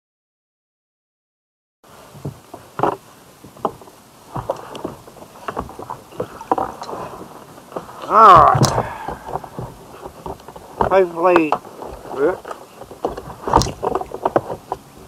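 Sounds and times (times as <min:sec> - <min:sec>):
paddle splashing water: 0:01.9 - 0:15.0
paddle tapping kayak hull: 0:02.2 - 0:15.0.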